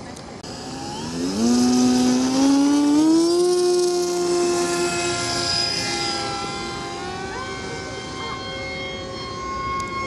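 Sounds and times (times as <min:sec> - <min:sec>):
model plane motor whine: 0:00.4 - 0:10.0.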